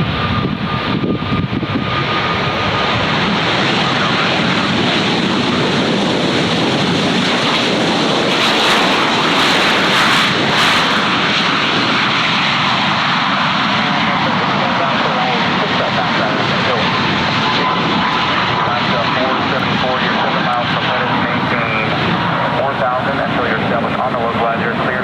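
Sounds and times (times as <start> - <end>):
airliner engines roaring: 0.0 - 25.0.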